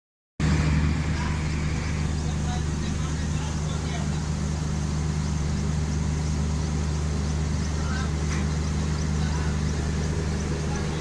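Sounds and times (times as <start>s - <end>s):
train coaches droning: 0.4s - 11.0s.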